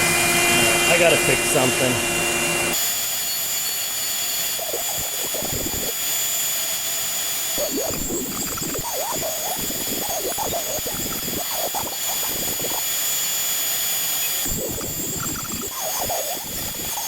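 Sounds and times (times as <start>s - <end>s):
router bit cutting wood: 0.0s - 17.0s
router spindle whining: 0.0s - 17.0s.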